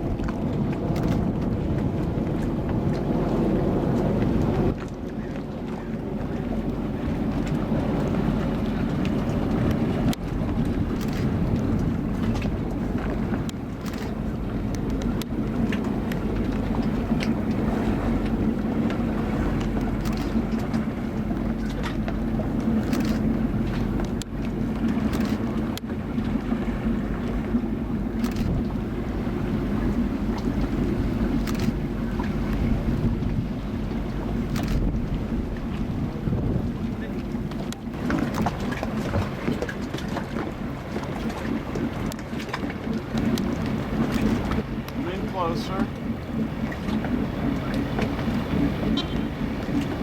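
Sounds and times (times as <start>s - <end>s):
motorboat engine drone: 0.0s - 50.0s
wind buffeting microphone: 0.0s - 50.0s.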